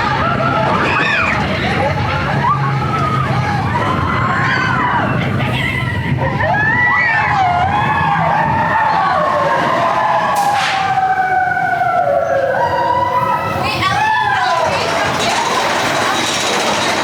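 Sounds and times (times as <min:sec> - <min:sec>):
roller coaster rumble: 0:00.0 - 0:17.0
wheels squealing: 0:00.0 - 0:17.0.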